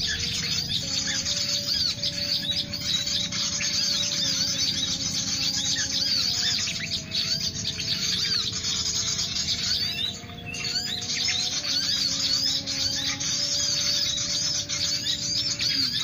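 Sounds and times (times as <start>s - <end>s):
low droning tone: 0.0s - 16.0s
small birds chirping: 0.0s - 16.0s.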